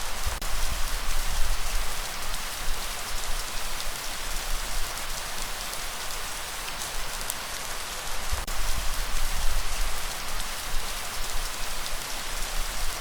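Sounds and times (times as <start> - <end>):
raindrops ticking on a surface: 0.0 - 13.0.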